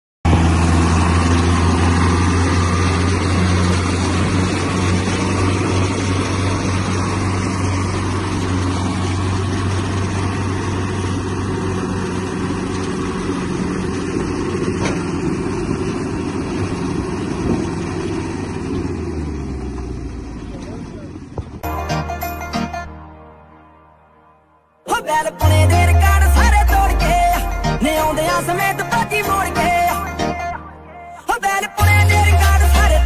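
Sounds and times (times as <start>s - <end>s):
tractor diesel engines under load: 0.2s - 23.1s, 24.9s - 33.0s.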